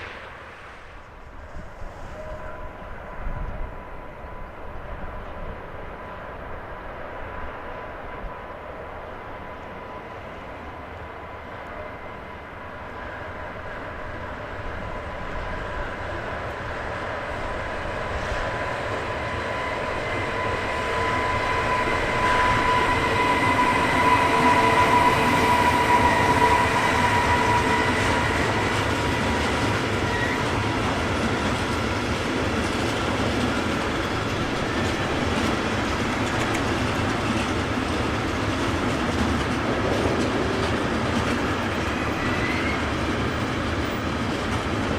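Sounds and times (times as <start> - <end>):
train passing: 0.0 - 44.9
wheels rumbling on rails: 0.0 - 44.9.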